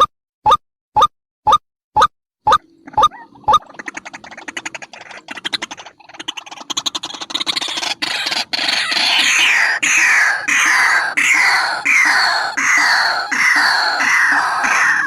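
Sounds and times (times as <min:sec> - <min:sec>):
waterhen ticking chatter: 0:02.5 - 0:15.0
harsh bird calls: 0:02.6 - 0:15.0.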